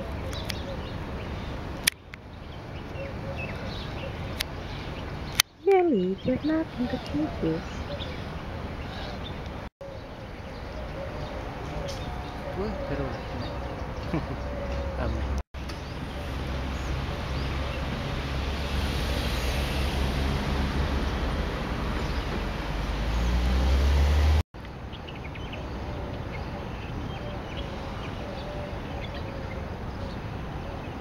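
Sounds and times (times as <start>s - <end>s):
steady traffic hum: 0.0s - 31.0s
vehicle rumbling past: 6.2s - 31.0s.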